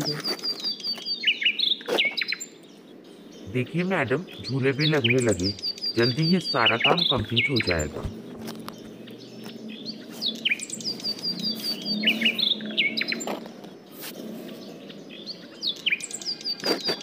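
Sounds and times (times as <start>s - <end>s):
small birds singing: 0.0s - 17.0s.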